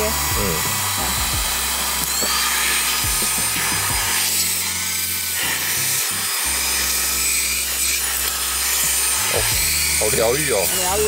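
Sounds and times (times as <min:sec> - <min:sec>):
handheld vacuum cleaner running: 0:00.0 - 0:11.0.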